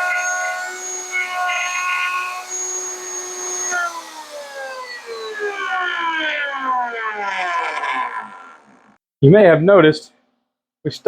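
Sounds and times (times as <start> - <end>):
router whining and winding down: 0.0 - 9.0.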